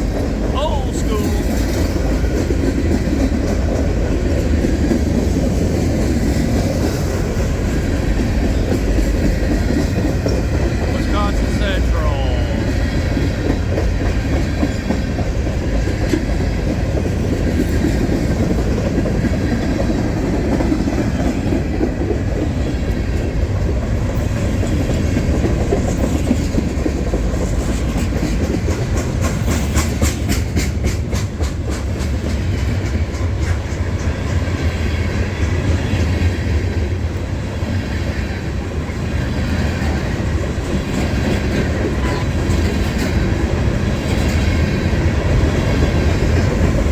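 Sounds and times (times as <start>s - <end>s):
train wheels clacking over rails: 1.4s - 11.2s, 12.9s - 46.9s.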